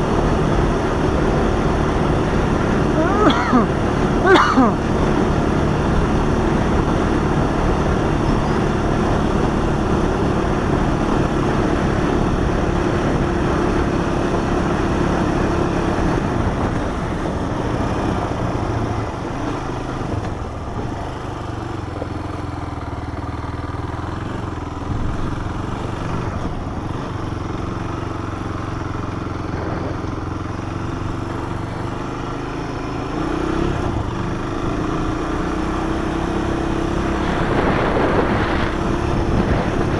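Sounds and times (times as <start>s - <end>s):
four-wheeler engine running: 0.0s - 39.9s.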